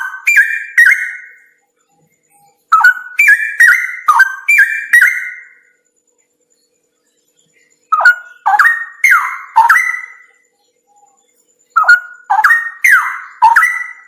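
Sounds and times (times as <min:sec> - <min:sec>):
bird whistling song: 0:00.0 - 0:05.8, 0:06.6 - 0:14.0.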